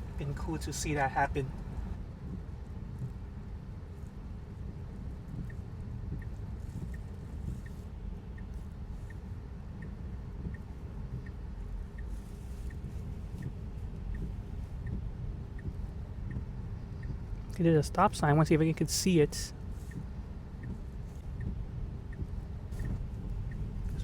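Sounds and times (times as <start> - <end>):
car turn signal ticking: 0.1 - 18.5, 19.5 - 24.0.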